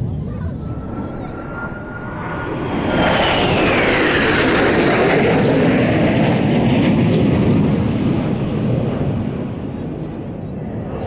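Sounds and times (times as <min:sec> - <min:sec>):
jet passing overhead: 0:00.0 - 0:11.0.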